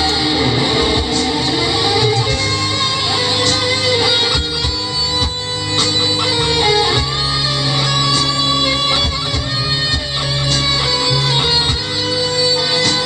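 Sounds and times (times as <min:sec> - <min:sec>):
electric guitar melody: 0:00.0 - 0:13.0.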